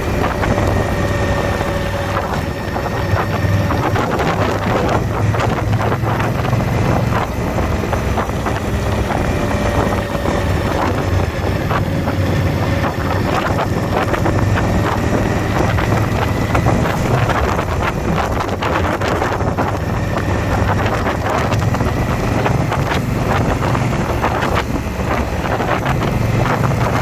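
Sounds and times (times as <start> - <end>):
motorcycle engine cruising: 0.0 - 27.0
wind buffeting microphone: 0.0 - 27.0.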